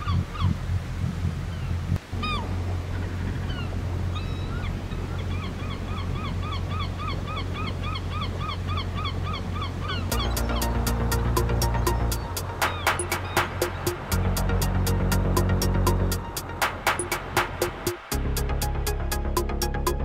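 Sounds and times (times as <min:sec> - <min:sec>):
water rushing along hull: 0:00.0 - 0:20.0
birds calling: 0:01.5 - 0:18.2
boat engine droning: 0:02.0 - 0:20.0.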